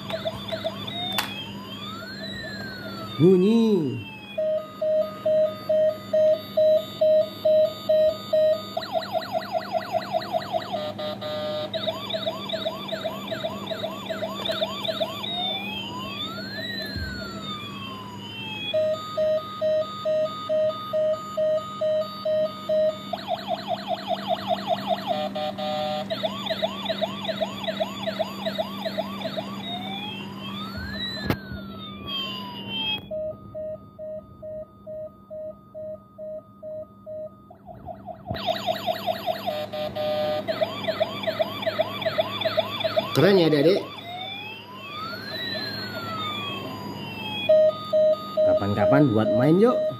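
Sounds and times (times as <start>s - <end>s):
toy electronic siren: 0.0s - 49.9s.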